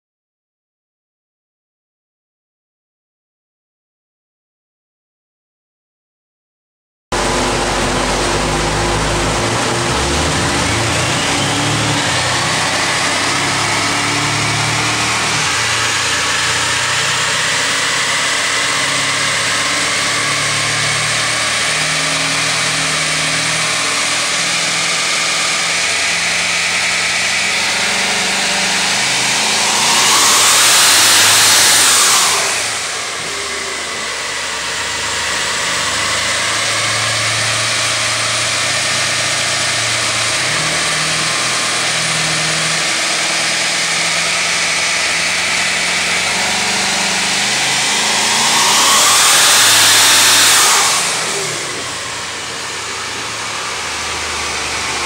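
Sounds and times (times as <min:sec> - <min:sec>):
car engine on a dyno: 0:07.1 - 0:55.0.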